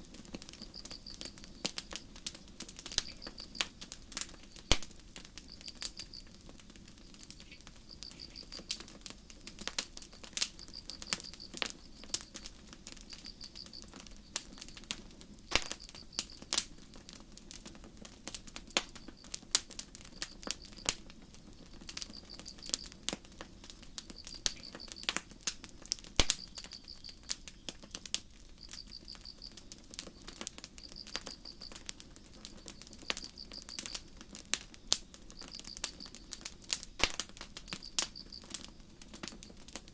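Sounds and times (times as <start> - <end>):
campfire crackling and popping: 0.0 - 39.9
crickets chirping: 0.4 - 14.9, 15.5 - 16.6, 18.8 - 19.4, 20.0 - 25.3, 26.2 - 39.6.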